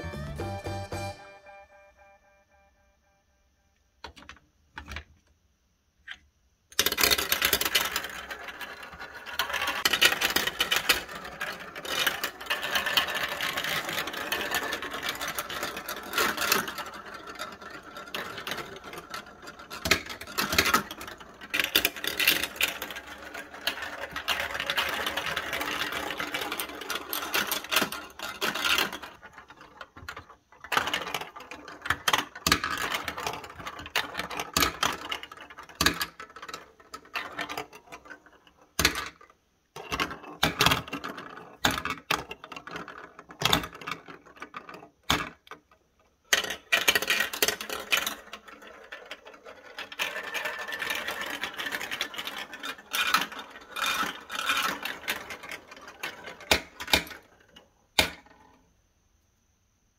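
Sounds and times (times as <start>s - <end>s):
marbles clicking and knocking: 6.1s - 58.7s
marbles rolling on plastic track: 6.1s - 58.7s.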